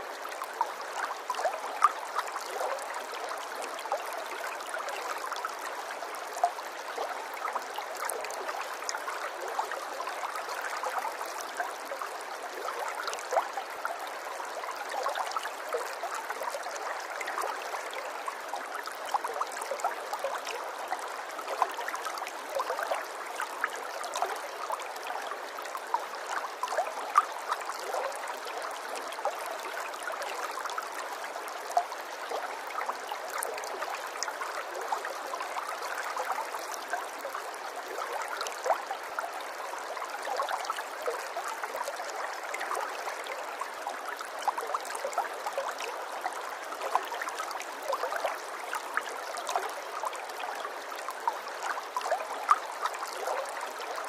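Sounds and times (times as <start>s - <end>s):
water trickling and gurgling: 0.0s - 54.0s.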